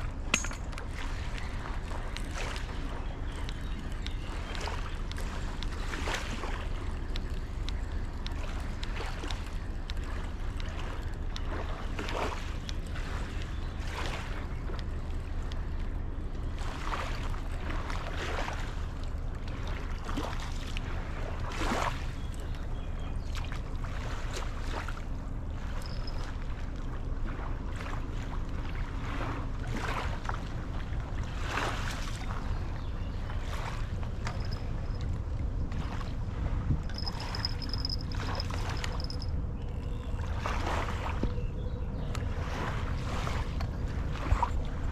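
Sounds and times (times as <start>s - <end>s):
small waves lapping on a bank: 0.0s - 44.9s
steady low rumble: 0.0s - 44.9s.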